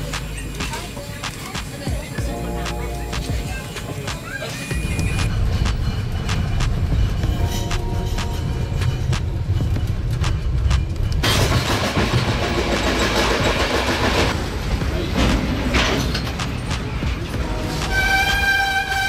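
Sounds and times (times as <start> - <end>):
train rumble from inside carriage: 0.0 - 19.0.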